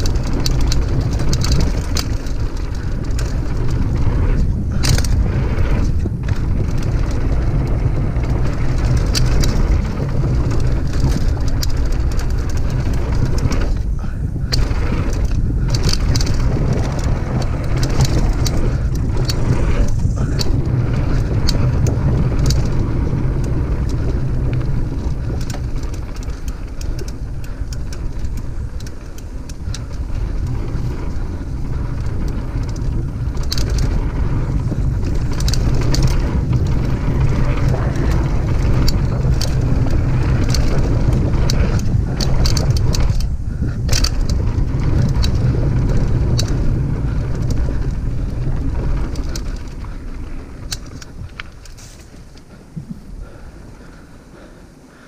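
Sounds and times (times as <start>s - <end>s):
bike clicks and rattles: 0.0s - 55.0s
tyres rolling on dirt: 0.0s - 55.0s
wind rumble on microphone: 0.0s - 55.0s.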